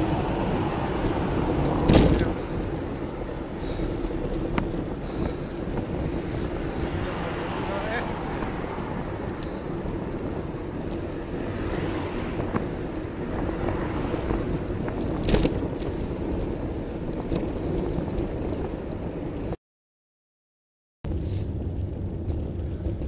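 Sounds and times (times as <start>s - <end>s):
road rumble: 0.0s - 19.6s, 21.0s - 23.0s
wind buffeting microphone: 0.0s - 19.6s, 21.1s - 23.0s.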